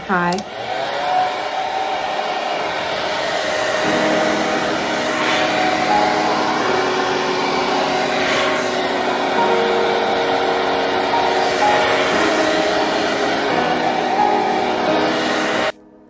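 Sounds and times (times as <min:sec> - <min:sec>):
hair dryer running: 0:00.0 - 0:15.8.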